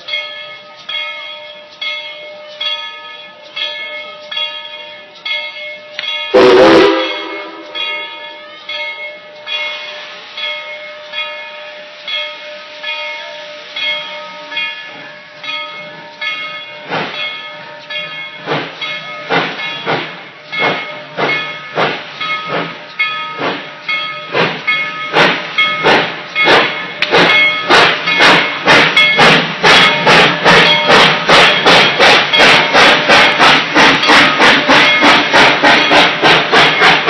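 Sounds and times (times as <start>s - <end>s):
locomotive bell ringing: 0.0s - 37.0s
steam locomotive exhaust chuffs: 3.4s - 37.0s.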